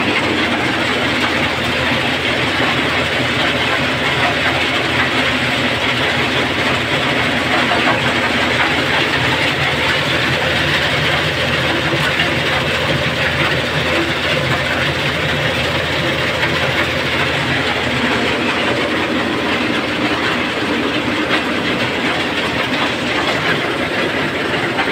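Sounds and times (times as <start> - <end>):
stone crusher machinery din: 0.0 - 24.9.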